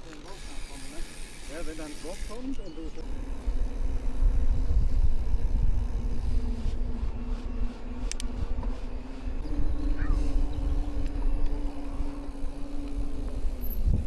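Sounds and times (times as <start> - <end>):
electric bike motor whine: 0.0 - 14.0
wind and tyres rumbling: 0.0 - 14.0.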